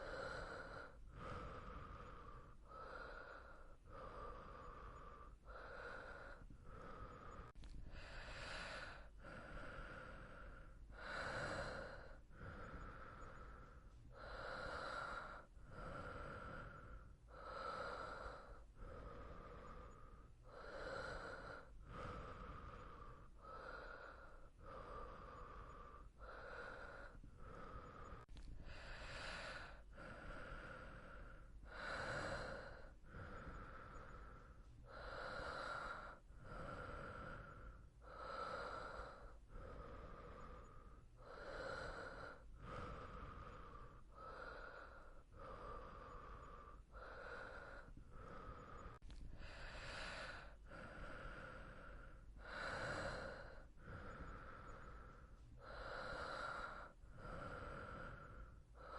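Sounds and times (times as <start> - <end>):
person breathing in sleep: 0.0 - 58.9.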